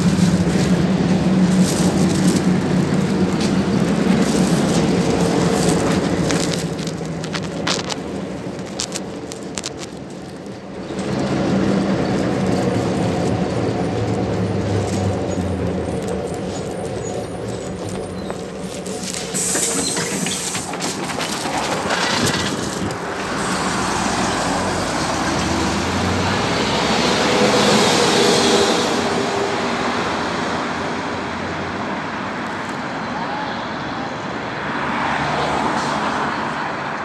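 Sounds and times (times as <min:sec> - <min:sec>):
bus engine and tyres passing: 0:00.0 - 0:37.0
street traffic: 0:00.0 - 0:37.0.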